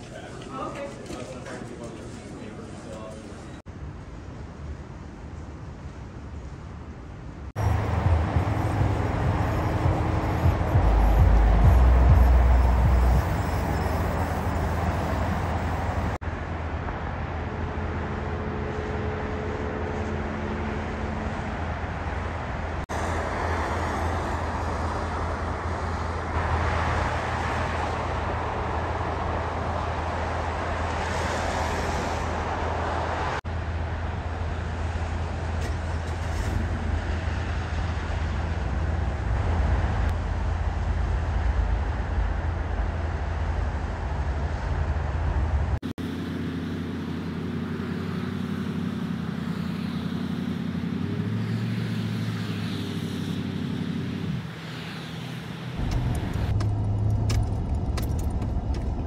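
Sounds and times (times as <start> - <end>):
tyre road noise: 0.0 - 59.0
car engine and road rumble: 2.0 - 59.0.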